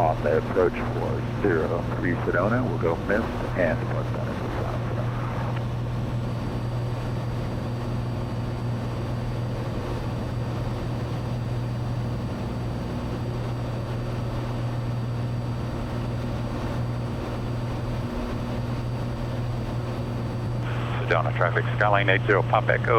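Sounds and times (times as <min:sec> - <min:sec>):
faint high whine: 0:00.0 - 0:22.9
propeller plane engine drone: 0:00.0 - 0:22.9.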